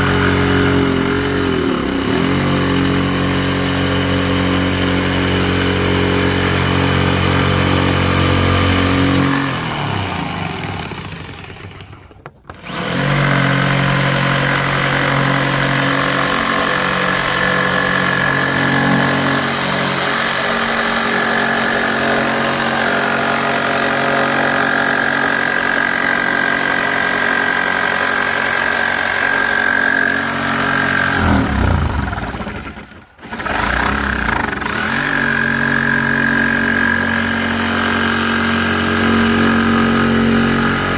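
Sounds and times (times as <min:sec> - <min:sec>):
jigsaw cutting fibreglass: 0:00.0 - 0:40.9.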